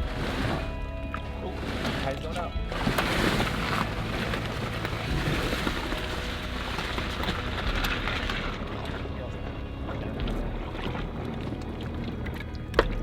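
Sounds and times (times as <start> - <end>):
boat engine hum: 0.0 - 13.0.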